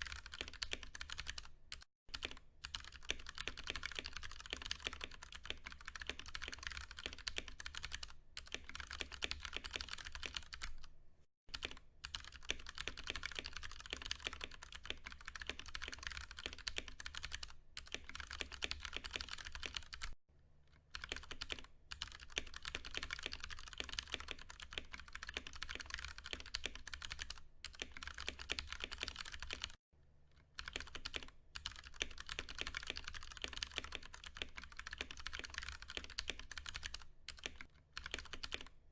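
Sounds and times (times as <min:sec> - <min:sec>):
fast typing on mechanical keyboard: 0:00.0 - 0:10.9, 0:11.5 - 0:20.2, 0:20.9 - 0:29.8, 0:30.6 - 0:38.8.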